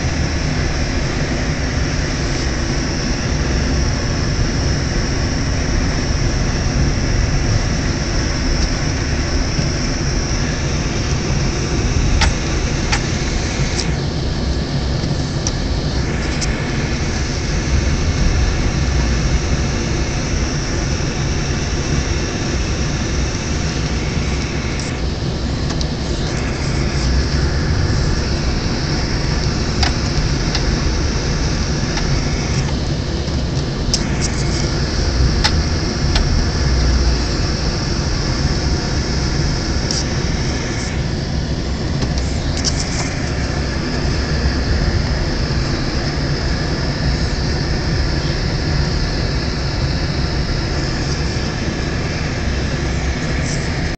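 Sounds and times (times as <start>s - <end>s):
engine and road rumble: 0.0s - 53.9s.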